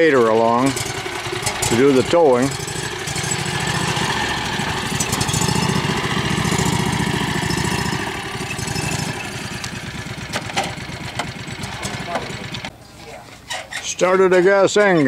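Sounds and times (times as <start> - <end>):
utility vehicle engine running: 0.0 - 12.7.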